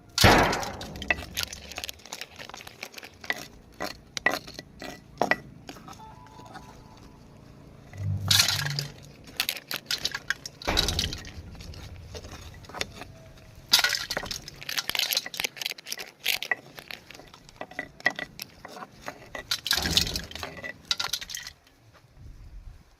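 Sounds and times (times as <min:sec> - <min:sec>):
scraping bursts: 0:00.0 - 0:21.6
small hard objects clinking: 0:00.0 - 0:21.8.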